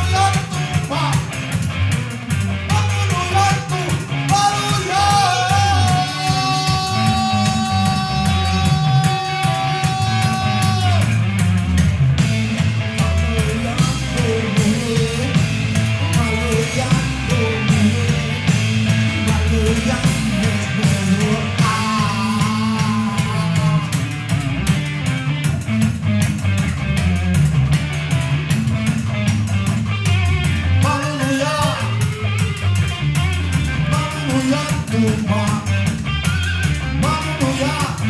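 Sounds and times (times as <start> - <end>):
electric guitar: 0.0 - 38.0
heavy low bass riff: 0.0 - 38.0
rock music: 0.0 - 38.0.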